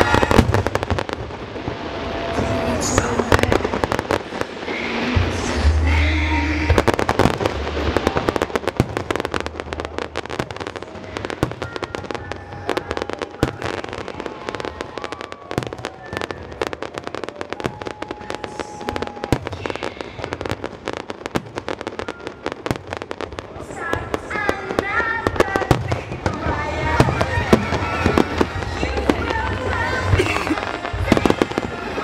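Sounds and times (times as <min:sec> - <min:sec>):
fireworks crackling and banging: 0:00.0 - 0:32.0.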